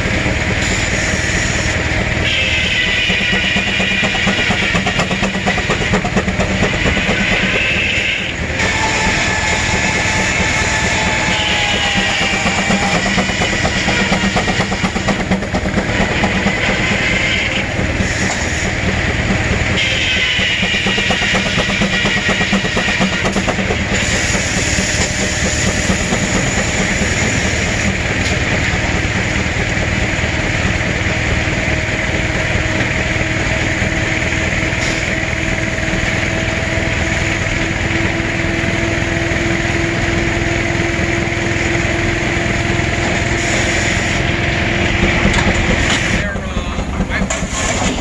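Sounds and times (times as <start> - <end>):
sawmill running: 0.0 - 48.0
steam engine exhaust beating: 0.0 - 48.0.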